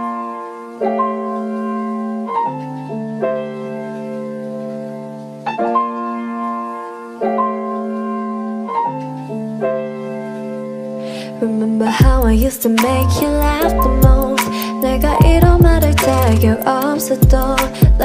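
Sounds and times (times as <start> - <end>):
piano playing slow chords: 0.0 - 18.0.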